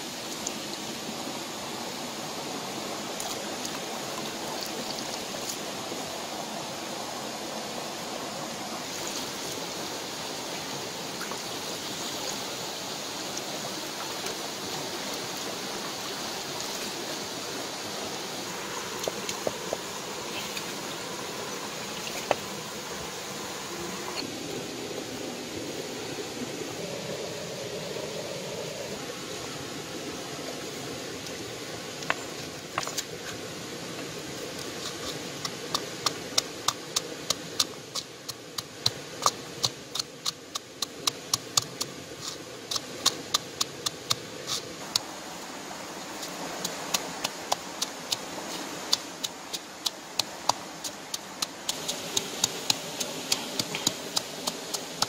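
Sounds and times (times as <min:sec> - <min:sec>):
shallow stream rushing: 0:00.0 - 0:55.0.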